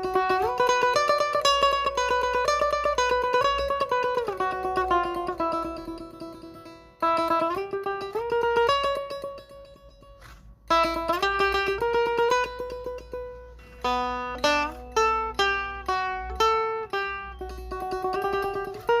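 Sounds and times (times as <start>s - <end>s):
plucked lute melody: 0.0s - 19.0s.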